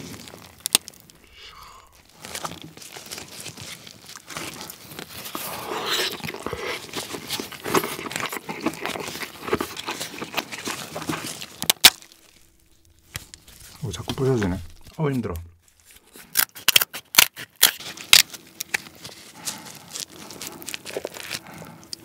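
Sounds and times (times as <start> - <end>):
crab shell cracking: 0.0 - 13.8, 15.9 - 22.0.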